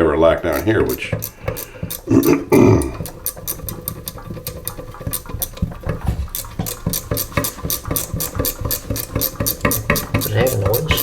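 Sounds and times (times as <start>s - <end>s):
rapid mechanical clicking: 0.0s - 11.0s.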